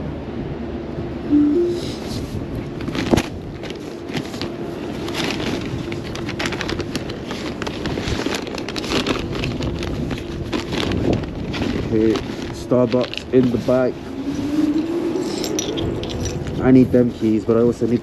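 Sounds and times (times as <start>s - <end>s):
paper bag rustling: 1.8s - 17.9s.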